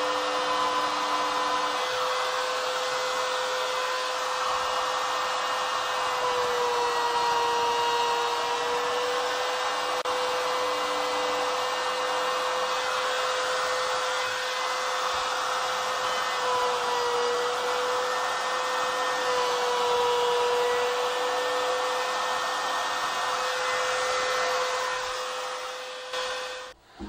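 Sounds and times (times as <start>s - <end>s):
laminate trimmer whining: 0.0s - 26.8s.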